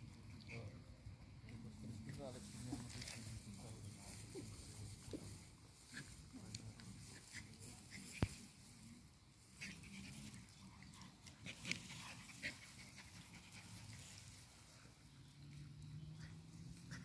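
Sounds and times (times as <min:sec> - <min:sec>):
rustling of stems and leaves: 0:01.6 - 0:16.8.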